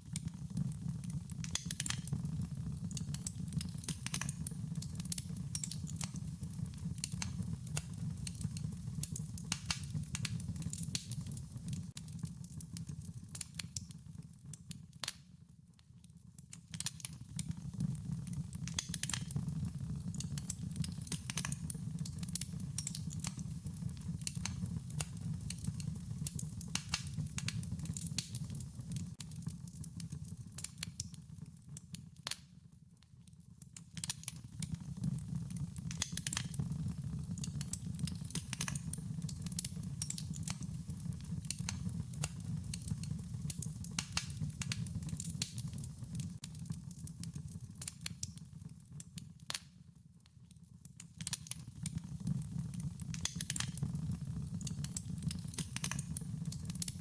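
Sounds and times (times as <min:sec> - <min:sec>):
low rumble of burning: 0:00.0 - 0:15.1, 0:16.8 - 0:31.9, 0:33.6 - 0:49.0, 0:51.2 - 0:57.0
wood fire crackling and popping: 0:00.0 - 0:49.8, 0:50.4 - 0:57.0.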